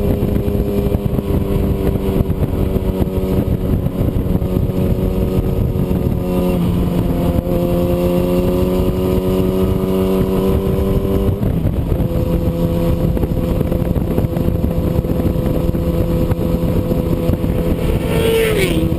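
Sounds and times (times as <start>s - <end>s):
engine running at high revs: 0.0s - 18.9s.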